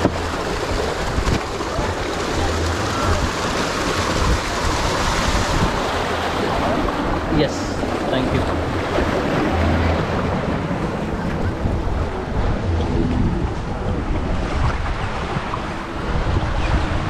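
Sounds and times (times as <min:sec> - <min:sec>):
water rushing down waterslide: 0:00.0 - 0:17.0
wind buffeting microphone: 0:00.0 - 0:17.0.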